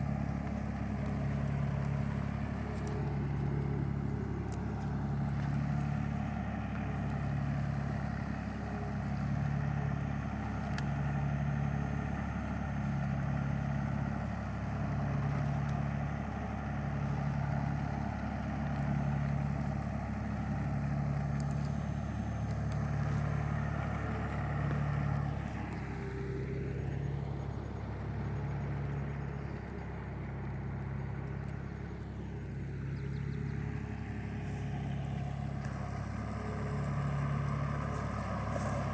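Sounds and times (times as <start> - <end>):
engine running at low revs: 0.0 - 38.9.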